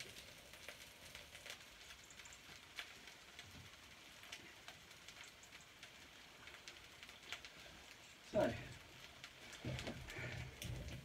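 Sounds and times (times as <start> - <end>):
chicken sizzling in pan: 0.0 - 11.0
wood fire crackling: 0.0 - 11.0.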